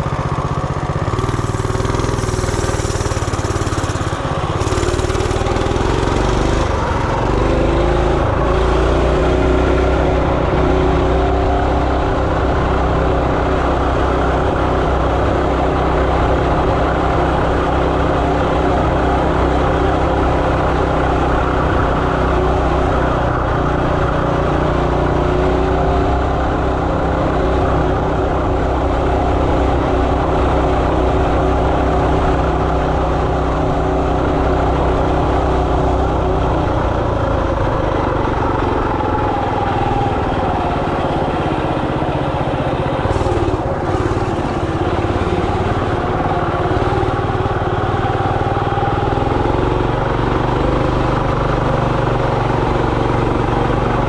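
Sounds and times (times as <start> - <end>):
minibike engine running: 0.0 - 54.0.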